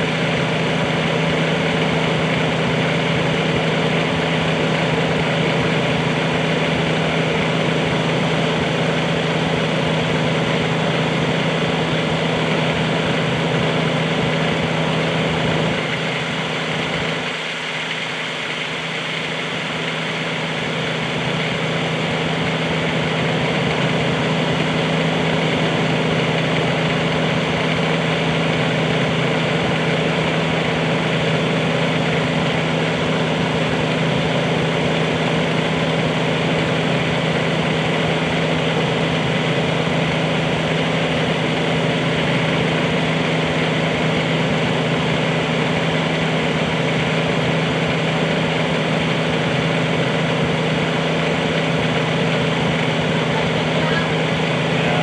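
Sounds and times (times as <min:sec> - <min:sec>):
excavator engine idling: 0:00.0 - 0:55.0.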